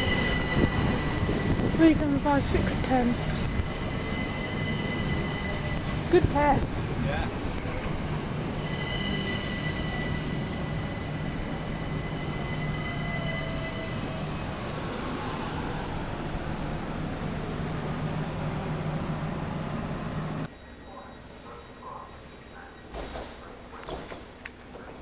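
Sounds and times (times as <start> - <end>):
train rumbling past: 0.0 - 23.8.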